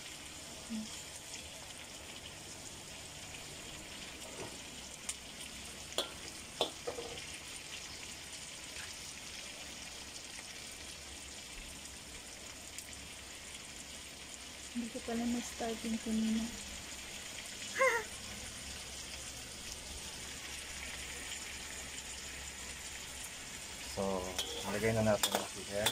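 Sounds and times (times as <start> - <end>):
meat sizzling in a wok: 0.0 - 25.9.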